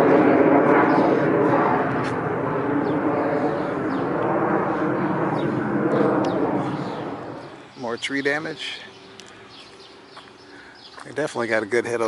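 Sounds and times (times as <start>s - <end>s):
steady engine noise: 0.0s - 12.0s.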